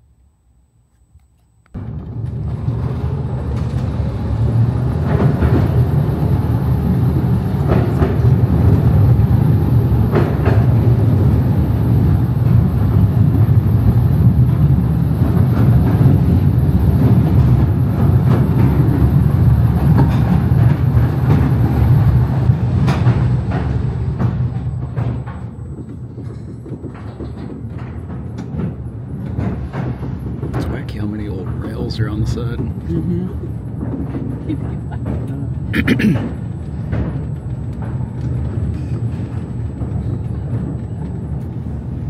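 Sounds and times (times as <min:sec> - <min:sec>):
train wheels rumbling on rail: 0:01.8 - 0:42.0.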